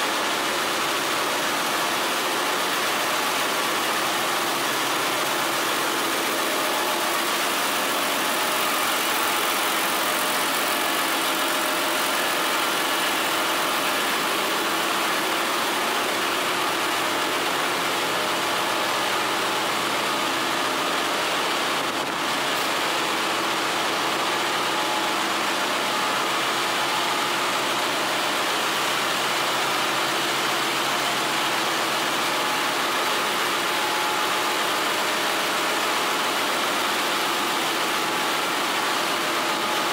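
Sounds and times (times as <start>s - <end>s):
engine room machinery din: 0.0s - 39.9s.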